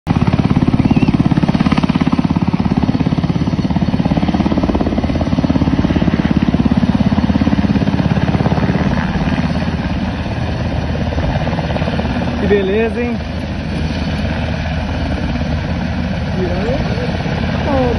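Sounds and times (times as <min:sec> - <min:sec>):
helicopter rotor beating: 0:00.1 - 0:17.9
turbine whine: 0:00.1 - 0:17.9.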